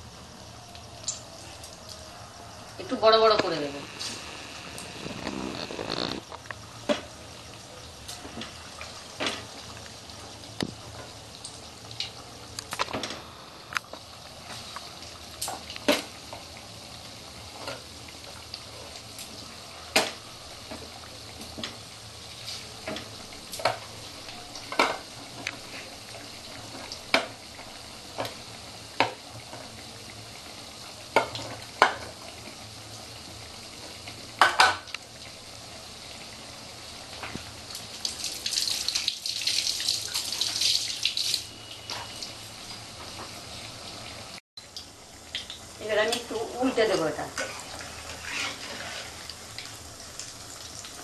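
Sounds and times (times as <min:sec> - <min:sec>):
food deep-frying in oil: 0:00.0 - 0:51.0.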